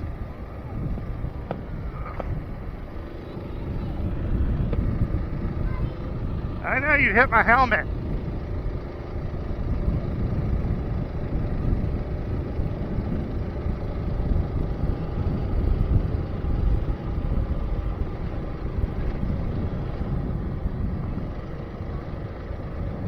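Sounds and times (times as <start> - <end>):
small motorbike engine running: 0.0 - 6.6, 7.8 - 23.0
wind buffeting microphone: 0.0 - 23.0.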